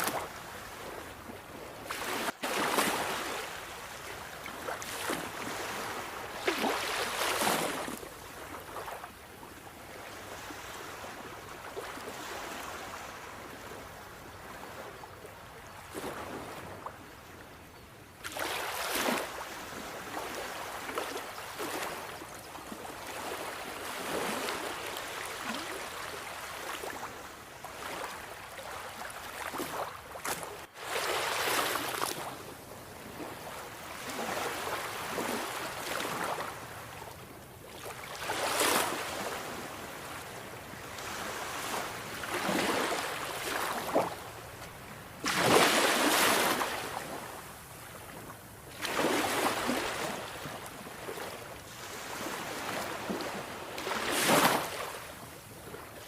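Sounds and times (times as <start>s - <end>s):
sea waves breaking on shore: 0.0s - 17.4s, 18.2s - 56.0s.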